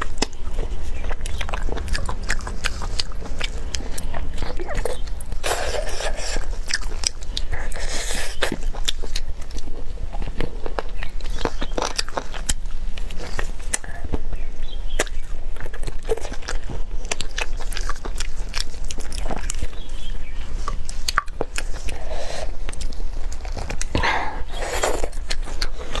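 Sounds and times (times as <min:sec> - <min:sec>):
wet chewing smacks: 0:00.0 - 0:26.0.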